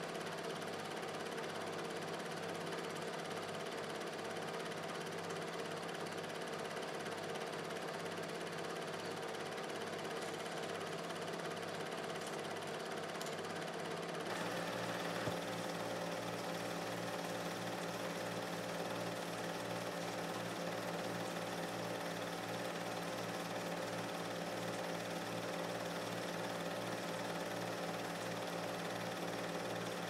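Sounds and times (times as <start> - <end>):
film projector whirring: 0.0 - 30.0.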